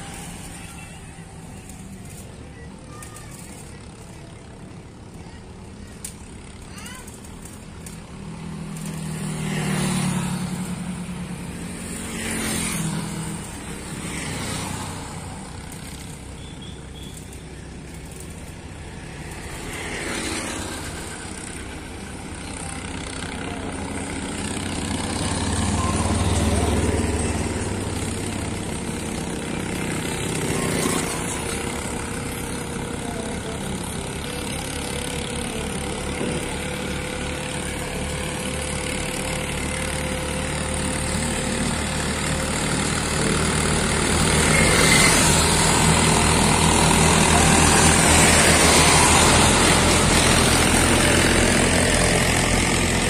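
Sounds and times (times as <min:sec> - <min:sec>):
tractor engine hum: 0:00.0 - 0:53.0
vehicles passing by: 0:00.0 - 0:53.0.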